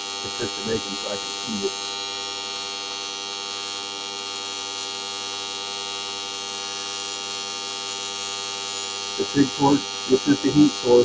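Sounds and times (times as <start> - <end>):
welding arc buzzing: 0.0 - 11.0.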